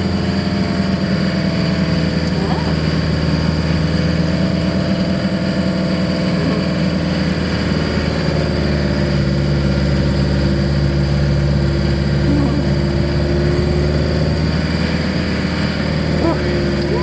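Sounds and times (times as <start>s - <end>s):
van engine droning: 0.0s - 17.0s.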